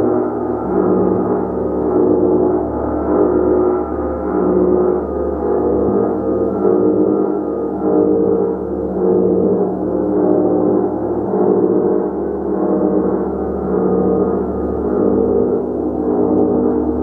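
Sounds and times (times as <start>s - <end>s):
gong played continuously: 0.0s - 17.0s.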